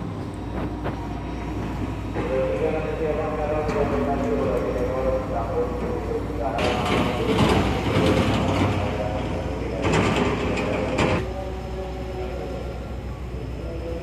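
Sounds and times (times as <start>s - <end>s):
electric train humming: 0.0s - 14.0s
wheels rattling and clanking on rails: 0.0s - 14.0s.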